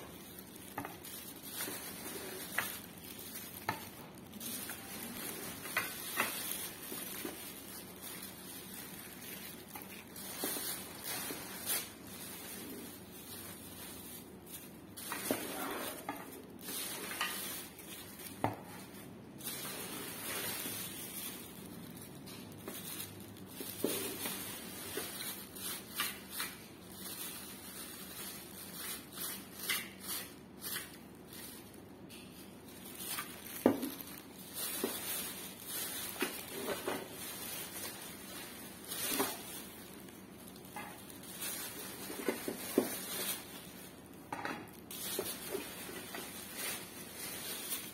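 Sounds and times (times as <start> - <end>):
plastic bags rustling and crinkling: 0.0 - 47.9.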